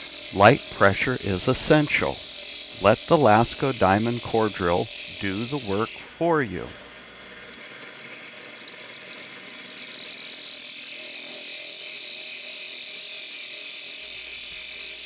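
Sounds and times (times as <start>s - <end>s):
drill grinding glass: 0.0s - 15.0s.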